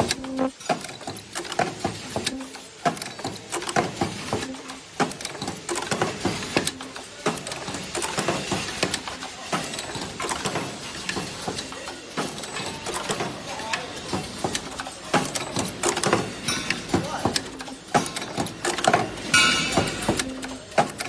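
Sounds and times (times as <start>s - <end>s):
machine clattering clicks and knocks: 0.0s - 21.0s.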